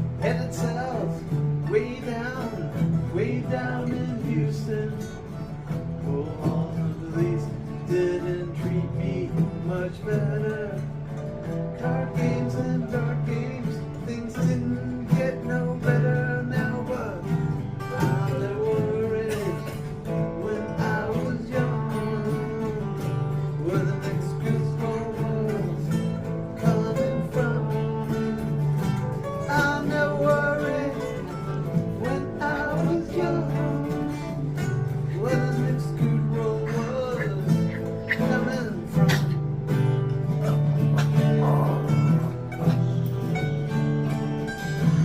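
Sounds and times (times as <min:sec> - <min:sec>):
guitar accompaniment: 0:00.0 - 0:45.0.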